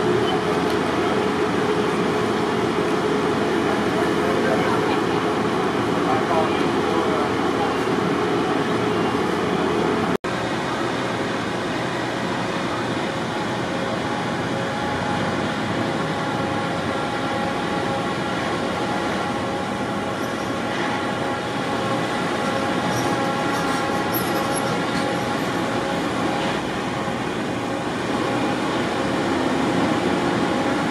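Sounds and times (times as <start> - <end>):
heavy engines idling: 0.0 - 30.9
street noise: 0.0 - 30.9.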